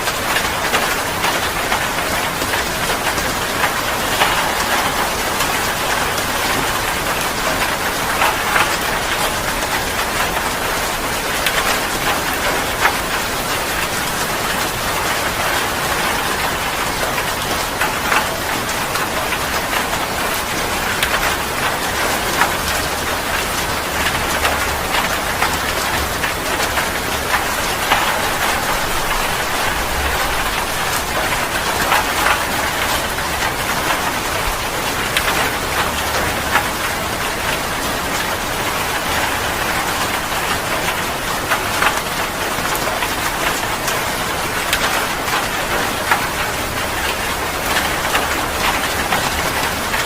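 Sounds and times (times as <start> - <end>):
heavy rain falling: 0.0 - 50.0
raindrops hitting a surface: 0.0 - 50.0.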